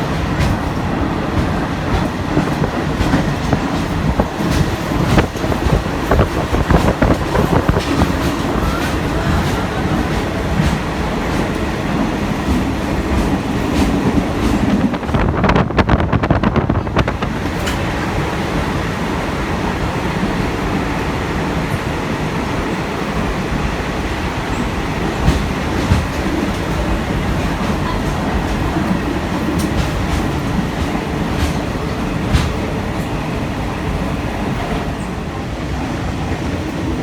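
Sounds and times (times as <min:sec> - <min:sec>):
train wheels rumbling and rattling: 0:00.0 - 0:37.0.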